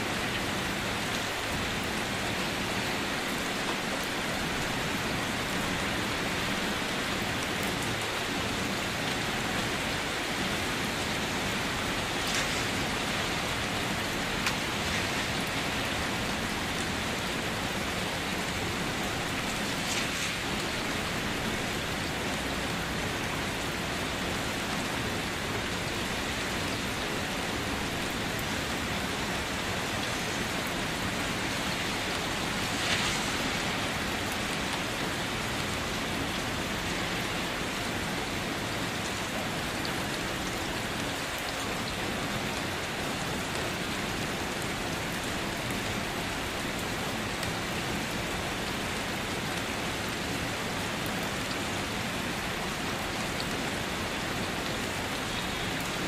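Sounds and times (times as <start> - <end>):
rain falling on wet surface: 0.0 - 56.0.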